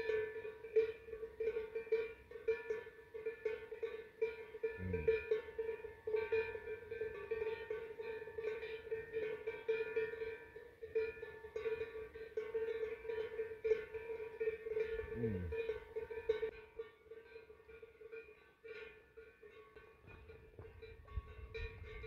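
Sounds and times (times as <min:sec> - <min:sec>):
cowbells clanging: 0:00.0 - 0:22.0.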